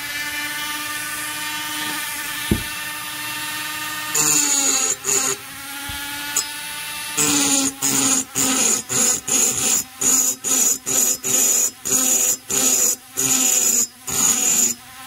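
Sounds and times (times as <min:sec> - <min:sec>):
rotary grinder whining: 0:00.0 - 0:15.0.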